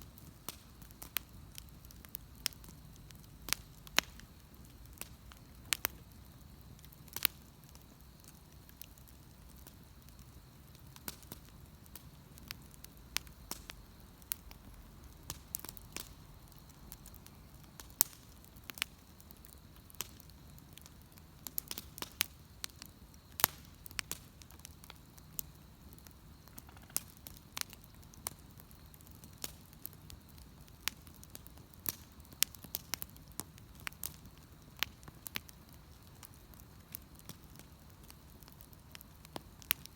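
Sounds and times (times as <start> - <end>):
bonfire crackling and popping: 0.0 - 39.9
low steady background noise: 0.0 - 39.9.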